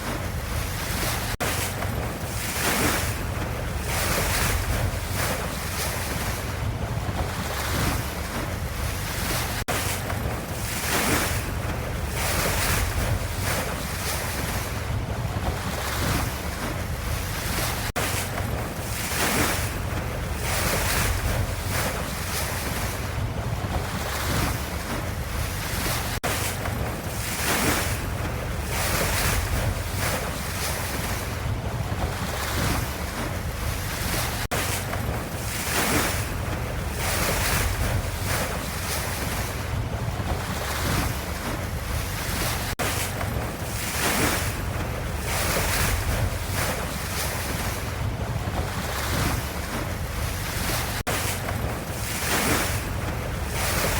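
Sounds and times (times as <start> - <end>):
ocean waves washing: 0.0 - 53.9.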